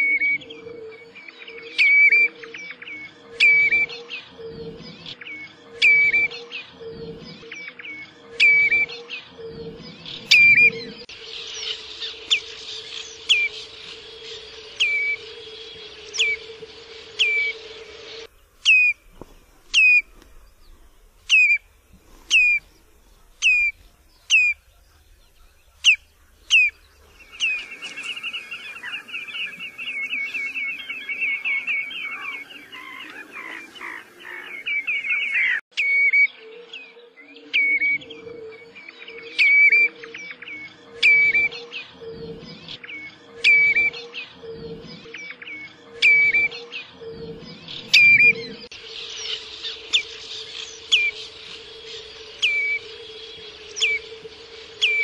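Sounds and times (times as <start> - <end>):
bird piping whistled calls: 7.0 - 9.1, 9.8 - 55.0.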